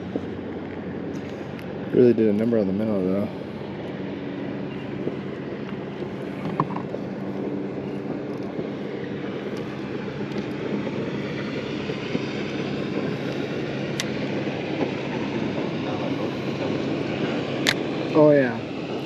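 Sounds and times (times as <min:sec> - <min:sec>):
boat motor running: 0:00.0 - 0:19.0
water noise: 0:00.0 - 0:19.0
wind: 0:00.0 - 0:19.0.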